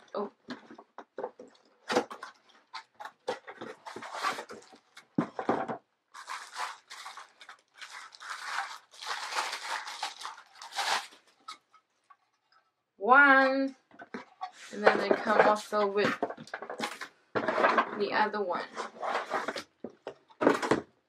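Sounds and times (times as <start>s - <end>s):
packaging rustling and crinkling: 0.0s - 12.2s, 14.1s - 17.9s, 18.7s - 20.8s.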